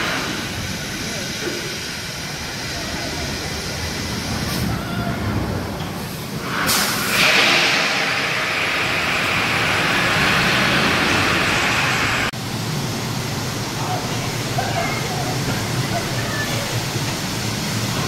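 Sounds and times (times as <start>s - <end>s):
roller coaster train rushing: 0.0s - 18.0s.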